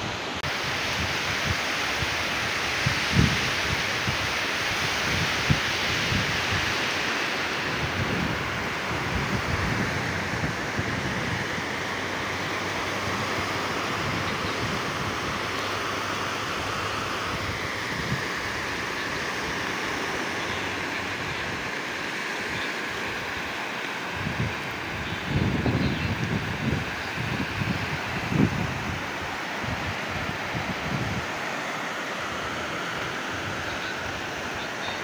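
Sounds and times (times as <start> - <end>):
small waves breaking on shore: 0.0 - 35.0
wind gusting on microphone: 0.0 - 35.0.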